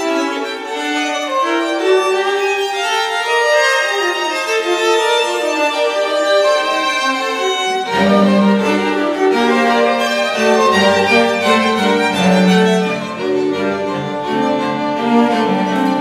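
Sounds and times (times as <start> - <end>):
cello and bass lines: 0.0 - 16.0
violins: 0.0 - 16.0.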